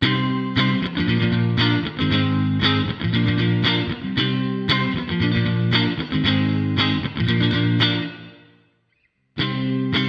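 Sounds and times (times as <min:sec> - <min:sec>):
electric guitar chords strummed: 0:00.0 - 0:08.7, 0:09.4 - 0:10.0.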